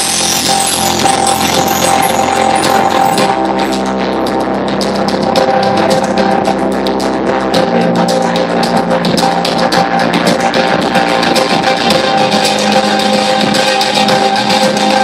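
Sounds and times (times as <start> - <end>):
loud music with steady beat: 0.0 - 15.0.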